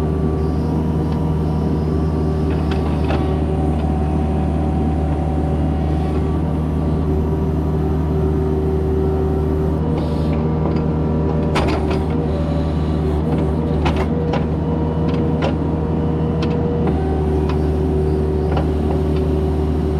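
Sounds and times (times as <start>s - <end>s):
excavator diesel engine running: 0.0s - 19.9s.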